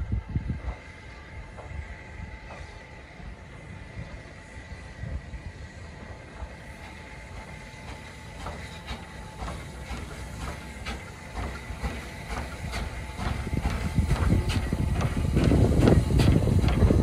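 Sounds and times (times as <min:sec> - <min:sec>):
steam hissing: 0:00.0 - 0:17.0
steam locomotive chuffing: 0:00.0 - 0:17.0.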